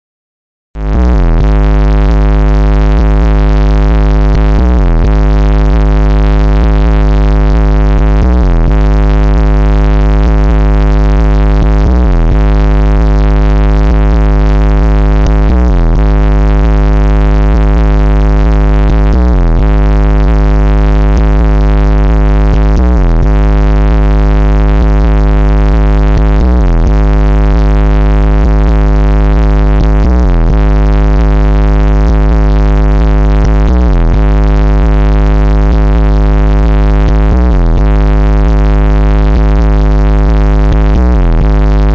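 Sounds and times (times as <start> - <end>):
deep bass drop: 0.8 - 41.9
loud bass-heavy music: 0.8 - 41.9.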